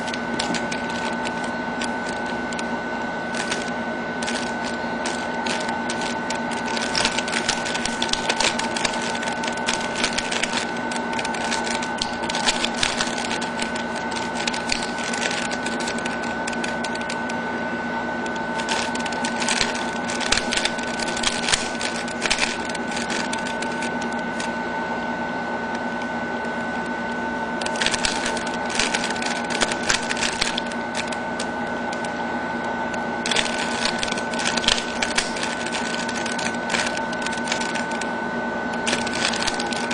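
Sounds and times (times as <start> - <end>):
steady whine: 0.0 - 39.9.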